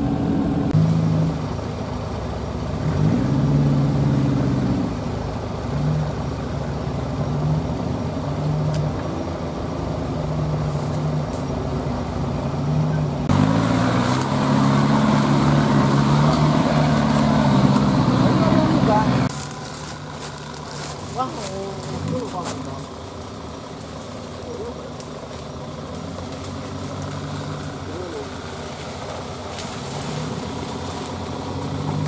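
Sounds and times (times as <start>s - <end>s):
vehicle engine revving: 0.0s - 32.0s.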